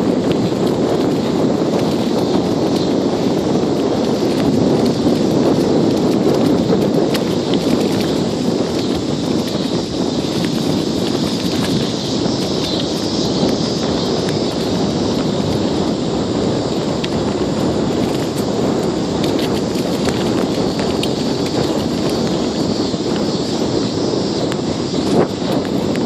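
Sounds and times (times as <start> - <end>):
bicycle clicks and rattles: 0.0 - 26.0
bicycle tyre rumble: 0.0 - 26.0
wind rushing: 0.0 - 26.0.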